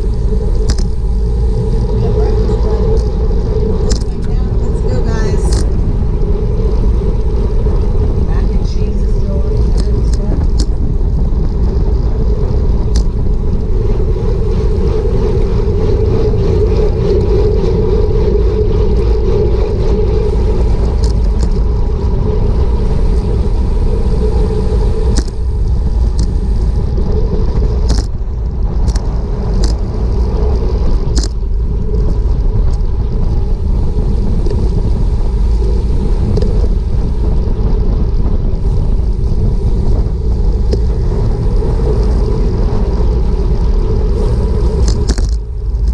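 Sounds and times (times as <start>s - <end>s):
bicycle tyres on asphalt: 0.0s - 45.9s
heavy wind buffeting microphone: 0.0s - 45.9s.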